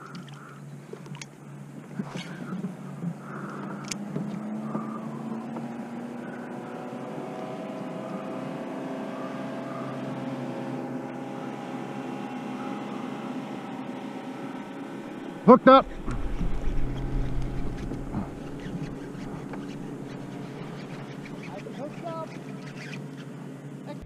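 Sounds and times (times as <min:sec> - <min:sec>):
boat motor running: 0:01.5 - 0:24.0.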